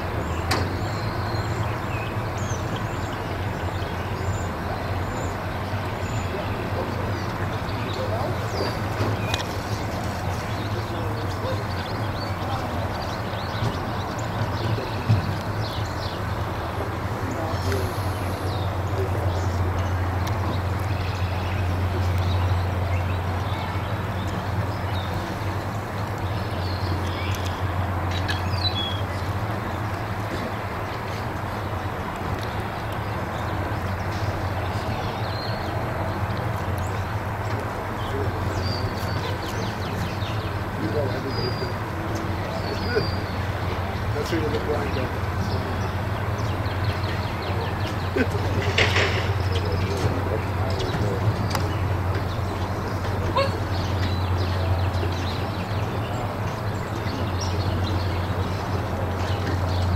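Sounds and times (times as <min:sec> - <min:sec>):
outdoor rumble and hiss: 0:00.0 - 0:59.9
small birds chirping: 0:00.0 - 0:59.9.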